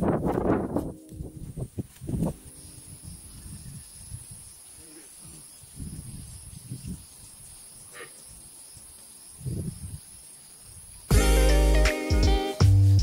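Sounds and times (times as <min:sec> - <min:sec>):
insects buzzing high-pitched: 0:00.0 - 0:13.0.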